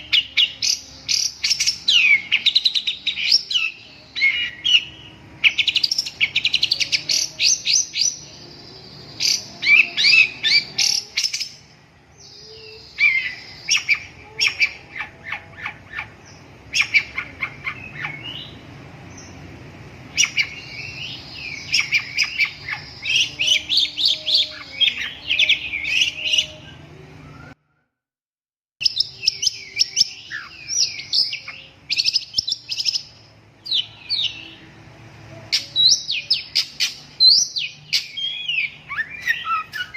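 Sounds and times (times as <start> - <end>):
bird singing rapid trills: 0.0 - 27.6, 28.8 - 39.9.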